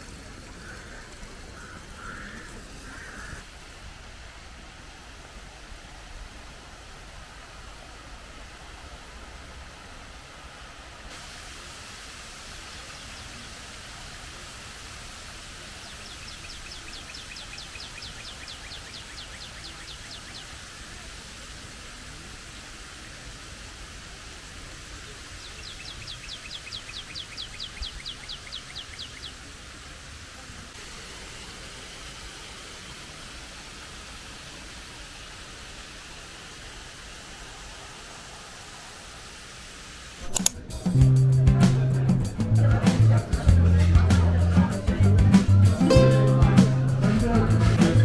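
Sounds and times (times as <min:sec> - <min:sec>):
fountain water hissing: 0:00.0 - 0:48.0.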